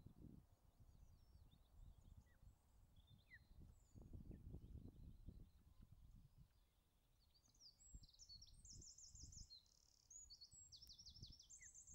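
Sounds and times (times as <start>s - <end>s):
faint bird trilling song: 0.9s - 11.9s.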